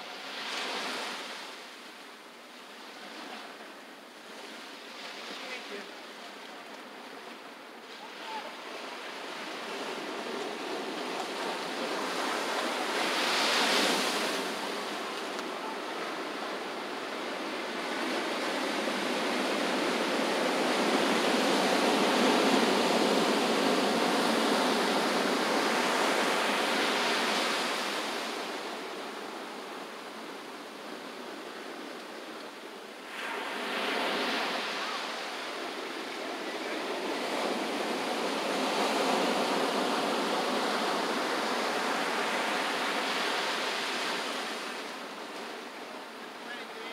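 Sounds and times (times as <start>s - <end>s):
ocean surf washing onto beach: 0.0s - 46.9s.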